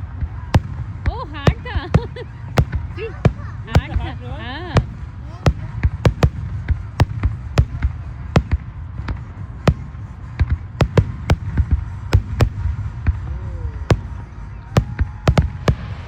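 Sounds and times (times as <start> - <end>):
fireworks bangs: 0.0 - 16.0
low rumble: 0.0 - 16.0.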